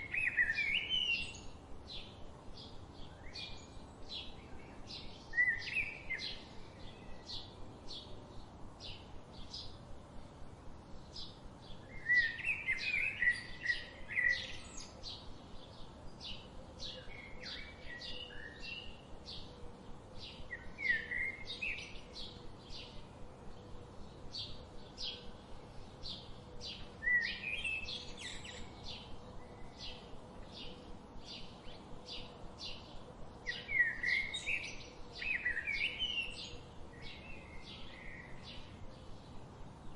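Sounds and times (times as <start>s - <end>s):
birds warbling song phrases: 0.0s - 9.8s, 11.0s - 39.9s.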